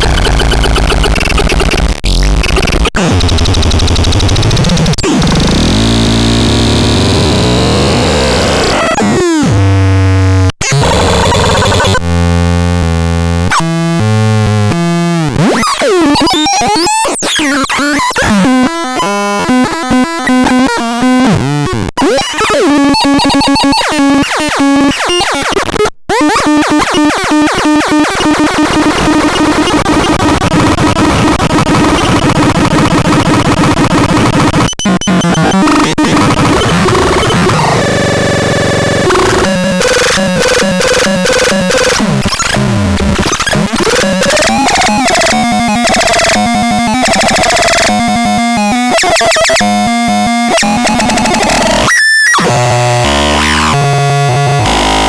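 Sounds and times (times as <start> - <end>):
harsh synthesizer sounds: 0.0 - 55.0.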